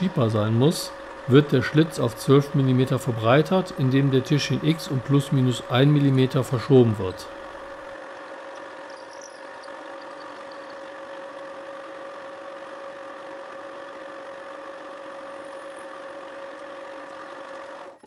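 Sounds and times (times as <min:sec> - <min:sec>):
milling machine whine: 0:00.0 - 0:18.0.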